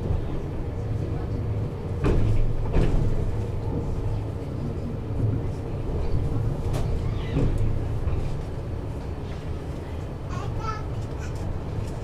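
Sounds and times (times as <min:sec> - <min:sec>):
tram motors and wheels rumbling: 0:00.0 - 0:12.0.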